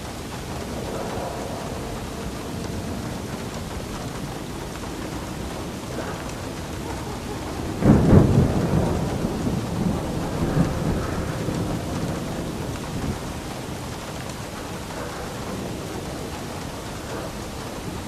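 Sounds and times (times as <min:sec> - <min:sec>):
steady rain: 0:00.0 - 0:18.0
thunder clap rumbling: 0:00.0 - 0:18.0.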